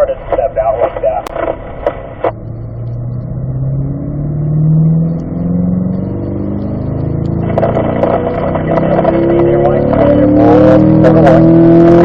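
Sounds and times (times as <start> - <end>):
rough loud engine noise: 1.3 - 12.0
sports car engine accelerating: 2.2 - 12.0.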